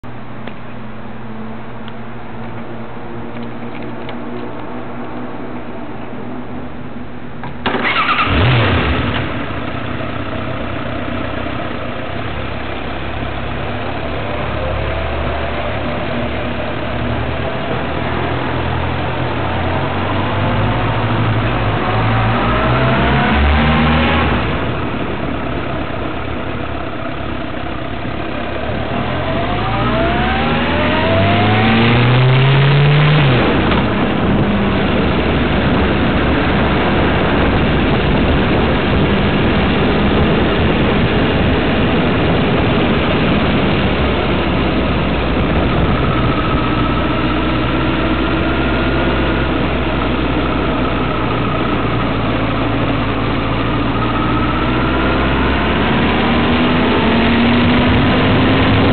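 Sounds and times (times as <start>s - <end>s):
road and wind noise: 0.0s - 58.9s
vehicle engine accelerating: 7.5s - 58.9s.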